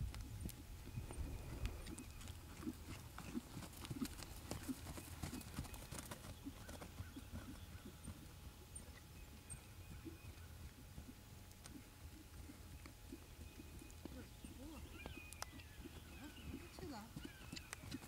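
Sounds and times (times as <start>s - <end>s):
horse hoofbeats on grass: 0.0s - 8.3s, 9.9s - 18.0s.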